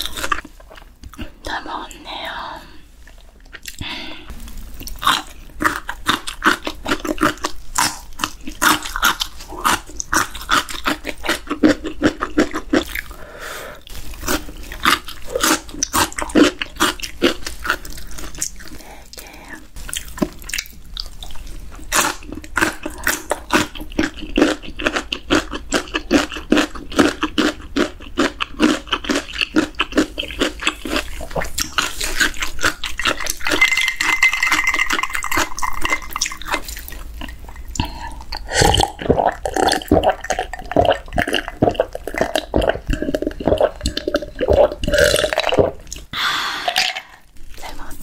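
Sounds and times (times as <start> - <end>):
person chewing wetly: 0.0 - 2.4, 3.0 - 48.0.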